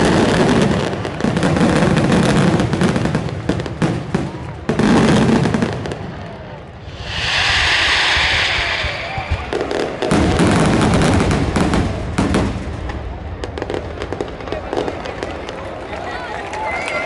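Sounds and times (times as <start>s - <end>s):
fireworks bursting and crackling: 0.0s - 15.9s.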